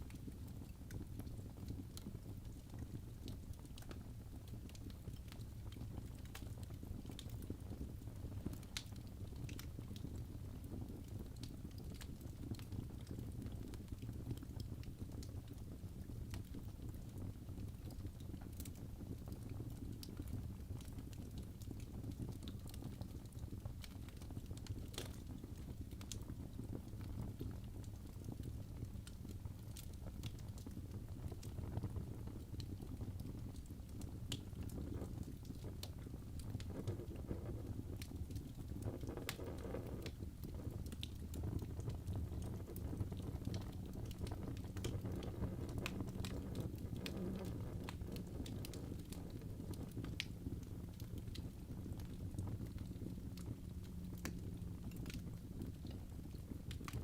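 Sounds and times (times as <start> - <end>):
fire crackling and popping: 0.0 - 57.0
low rumble of flame: 0.0 - 57.0.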